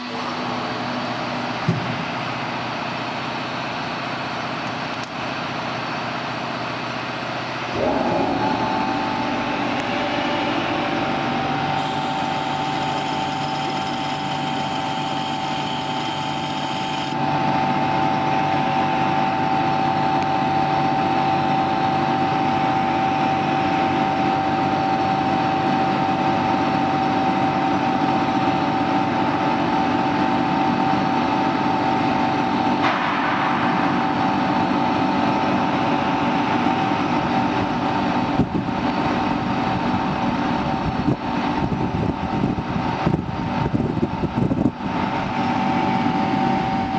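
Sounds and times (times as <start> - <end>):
mixer machine humming and whining: 0.0 - 46.9.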